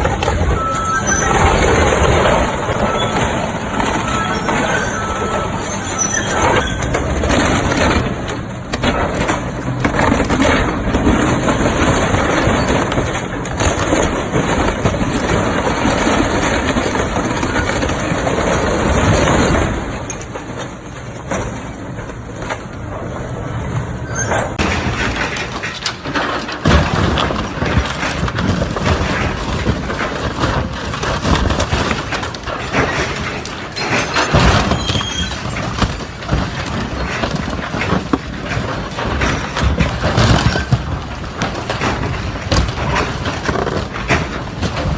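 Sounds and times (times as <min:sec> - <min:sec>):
excavator running: 0:00.0 - 0:44.9
metal crunching and squealing: 0:00.0 - 0:44.9.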